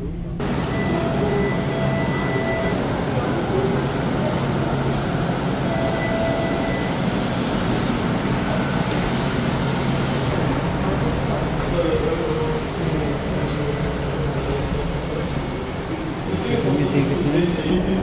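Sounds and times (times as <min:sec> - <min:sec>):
streetcar rumble and hum: 0:00.0 - 0:18.0.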